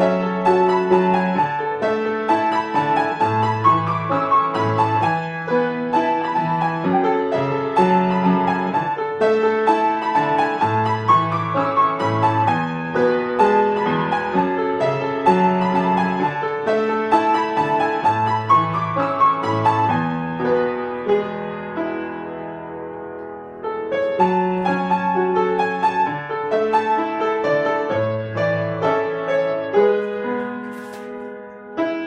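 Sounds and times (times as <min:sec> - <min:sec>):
solo piano playing: 0:00.0 - 0:32.0.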